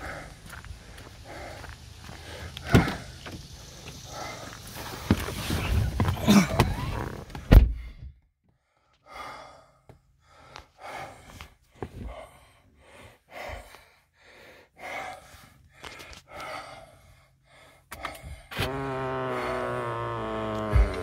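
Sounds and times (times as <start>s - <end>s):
person breathing close to microphone: 0.0s - 6.0s, 7.6s - 18.6s.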